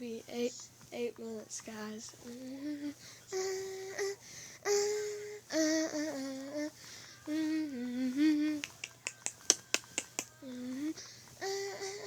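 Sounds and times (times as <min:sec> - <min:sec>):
person humming: 0:02.2 - 0:12.0.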